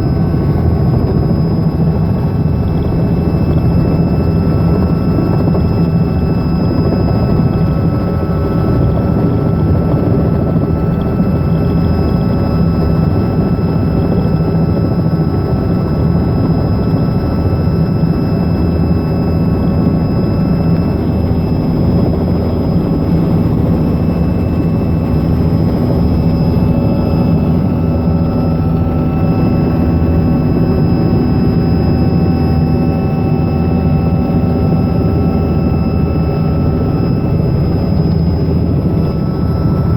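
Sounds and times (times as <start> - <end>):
helicopter rotor drone: 0.0 - 39.9
high turbine whine: 0.0 - 39.9.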